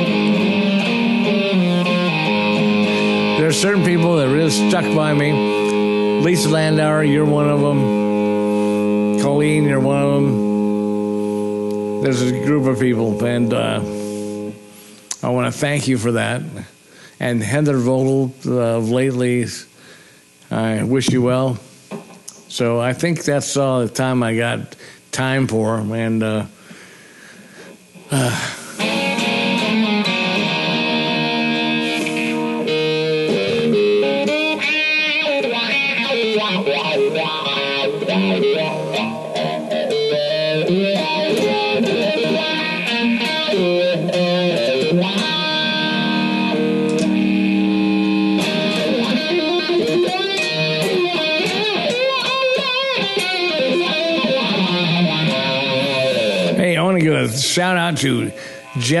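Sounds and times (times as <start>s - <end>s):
electric guitar lead line: 0.0s - 19.7s, 27.6s - 59.0s.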